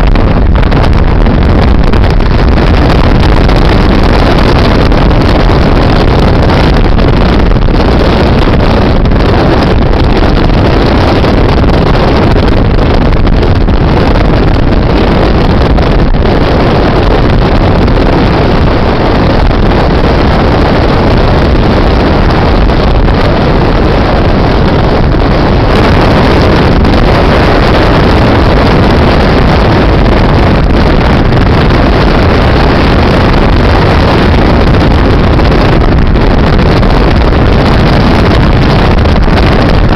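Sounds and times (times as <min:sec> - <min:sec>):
wind and road noise: 0:00.0 - 0:39.9
wind buffeting microphone: 0:00.0 - 0:39.9.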